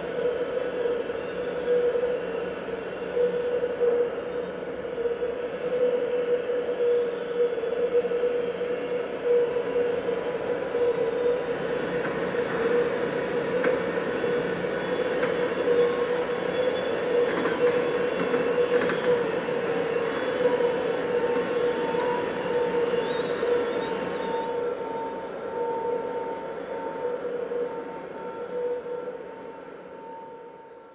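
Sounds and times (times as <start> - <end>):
industrial machinery drone: 0.0 - 30.9
thin high whine: 0.0 - 30.9.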